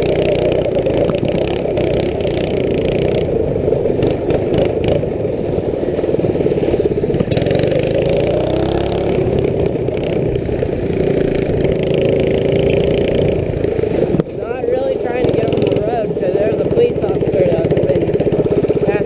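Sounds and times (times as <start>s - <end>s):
go-kart engine revving: 0.0s - 19.0s.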